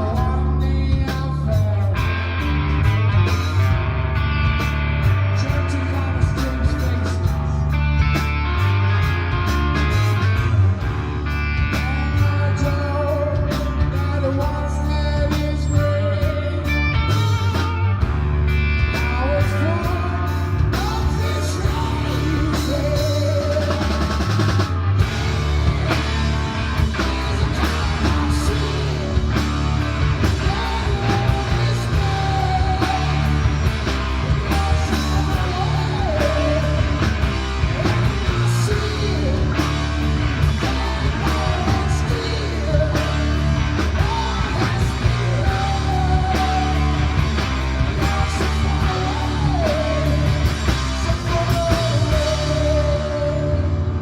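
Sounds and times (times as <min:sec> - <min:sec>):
rock music with singing: 0:00.0 - 0:54.0.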